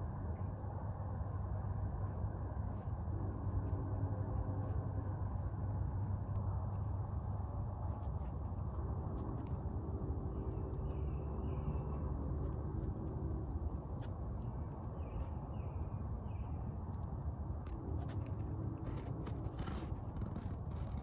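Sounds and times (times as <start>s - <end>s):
low rumble: 1.6s - 21.0s.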